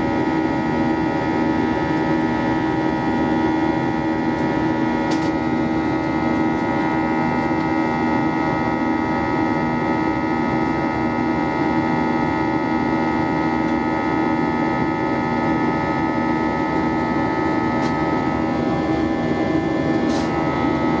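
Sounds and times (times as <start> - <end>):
jet engine drone in cabin: 0.0 - 21.0.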